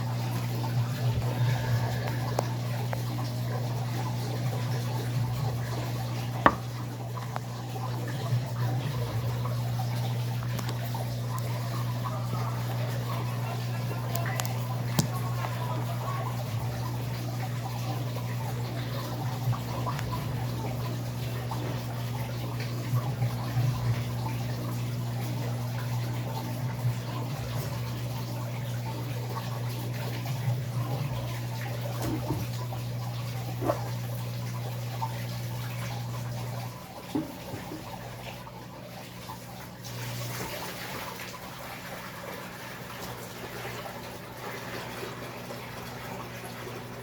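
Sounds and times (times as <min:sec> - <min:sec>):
washing machine hum: 0:00.0 - 0:47.0
water sloshing in washing machine: 0:00.0 - 0:47.0.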